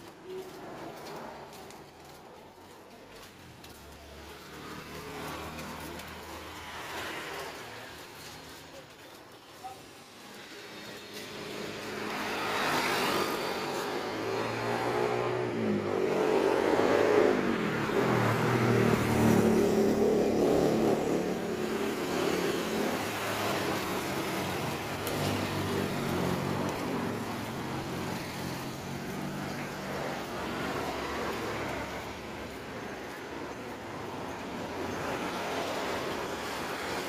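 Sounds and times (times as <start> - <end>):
cars passing: 0.0 - 37.0
traffic hum: 0.0 - 37.0
motorbike passing: 2.3 - 8.9, 10.0 - 37.0.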